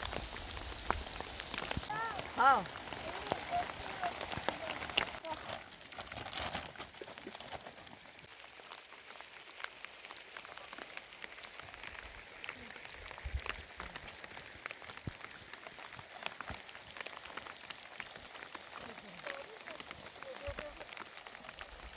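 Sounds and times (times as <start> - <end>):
rain on a hard surface: 0.0 - 21.9.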